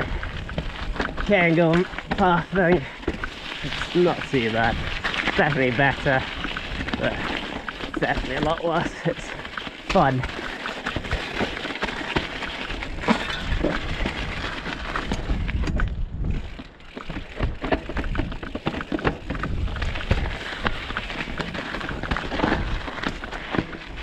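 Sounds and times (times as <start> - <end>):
bike chain and frame rattling: 0.0 - 24.0
tyres crunching over stones: 0.0 - 24.0.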